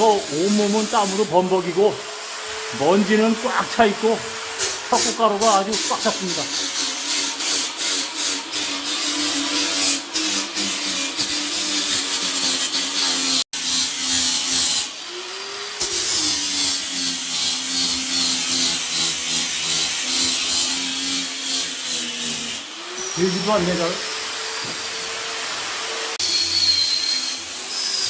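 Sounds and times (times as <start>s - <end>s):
electric grinder grinding plaster: 0.0s - 28.0s.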